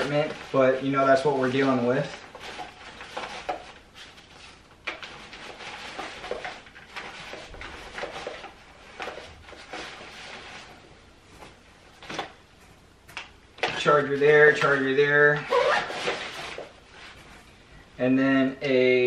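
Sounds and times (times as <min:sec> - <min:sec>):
nylon backpack rustling: 0:00.0 - 0:12.9, 0:13.6 - 0:17.9.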